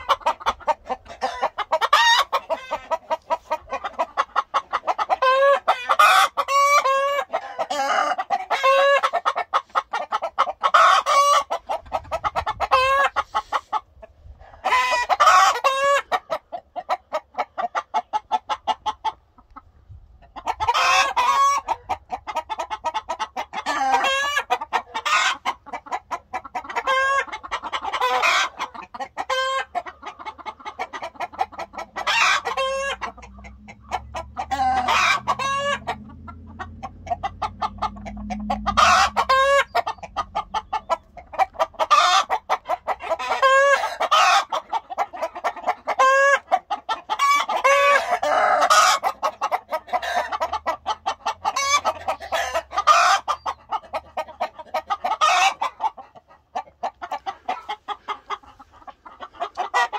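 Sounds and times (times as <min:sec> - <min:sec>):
hens clucking: 0:00.0 - 0:59.9.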